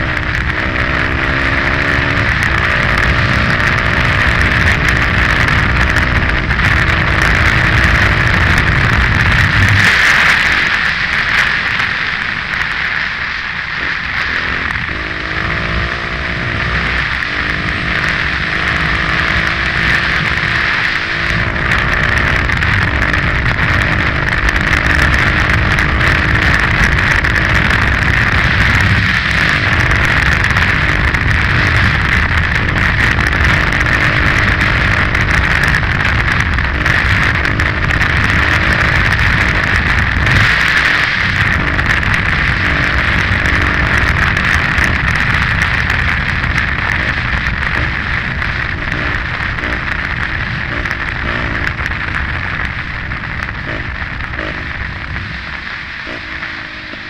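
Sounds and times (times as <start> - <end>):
motorcycle engine under load: 0.0 - 57.0
wind and road noise: 0.0 - 57.0.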